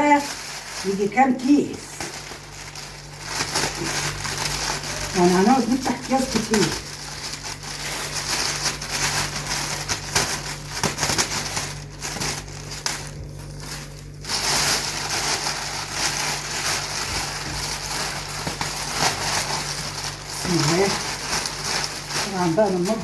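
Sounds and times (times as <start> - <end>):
plastic bags crinkling: 0.0 - 23.0.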